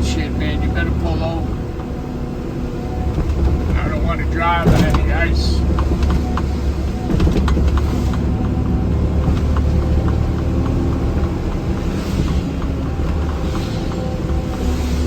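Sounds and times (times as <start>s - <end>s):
road rumble: 0.0s - 15.0s
vehicle engine drone: 0.0s - 15.0s.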